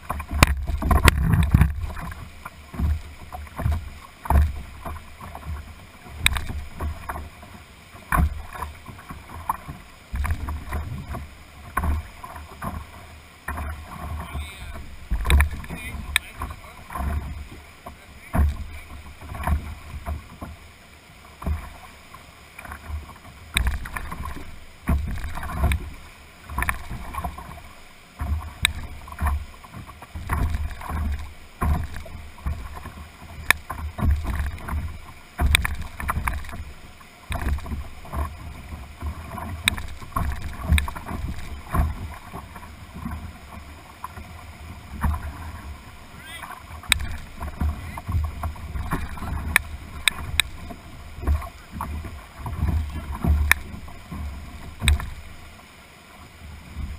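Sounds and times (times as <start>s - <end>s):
water thumping against hull: 0.0s - 56.9s
whitewater rapids rushing: 0.0s - 56.9s.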